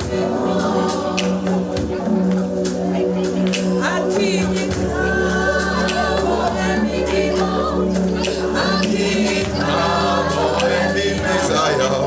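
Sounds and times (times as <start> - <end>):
gospel choir singing: 0.0 - 12.0
light percussion: 0.0 - 12.0.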